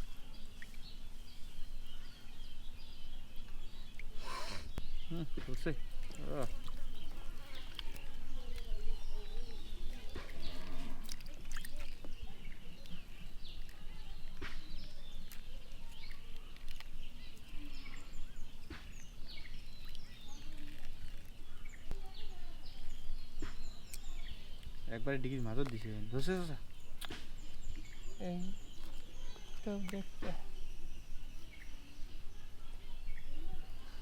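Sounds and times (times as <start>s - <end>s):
bird chirps: 0.0s - 34.0s
faint distant voices: 0.0s - 34.0s.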